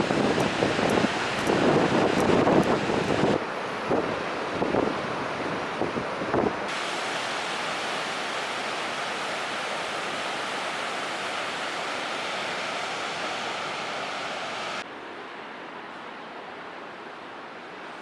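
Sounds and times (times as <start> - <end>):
ocean surf: 0.0 - 18.0
wind: 0.0 - 18.0.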